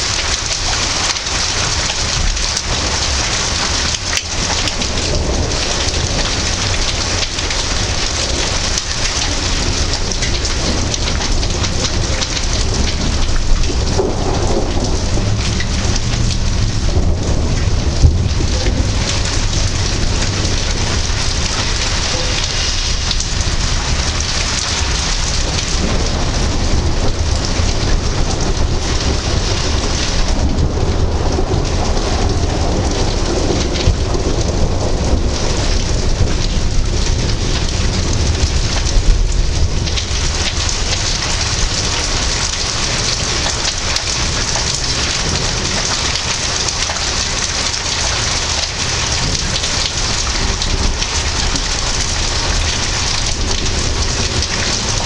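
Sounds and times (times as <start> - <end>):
low rumble of thunder: 0.0 - 55.0
steady rain falling: 0.0 - 55.0.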